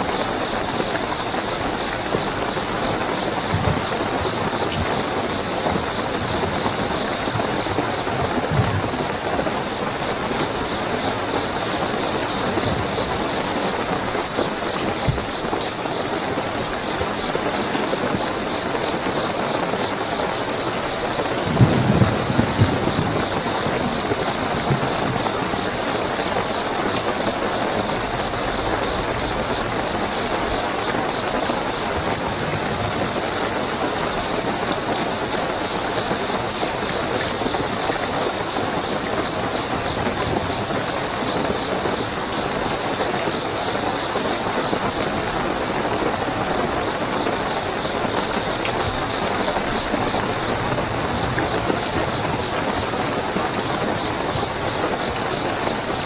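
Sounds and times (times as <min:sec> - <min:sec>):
crickets chirping: 0:00.0 - 0:56.0
heavy rainfall: 0:00.0 - 0:56.0.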